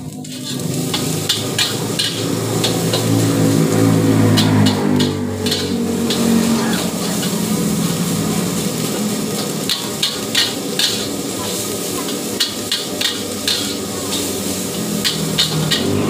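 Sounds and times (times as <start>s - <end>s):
metal spatula scraping a wok: 0.0s - 16.0s
rice sizzling in oil: 0.0s - 16.0s.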